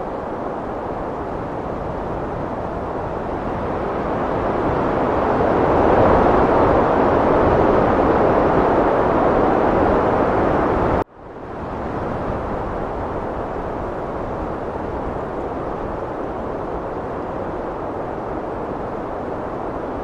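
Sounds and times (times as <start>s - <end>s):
heavy wind blowing: 0.0s - 20.0s.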